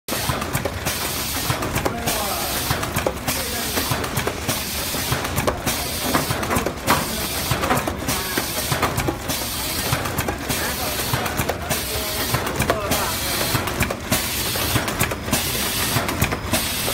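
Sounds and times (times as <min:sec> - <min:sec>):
machine clicks and knocks: 0:00.1 - 0:16.9
packaging machine running: 0:00.1 - 0:16.9.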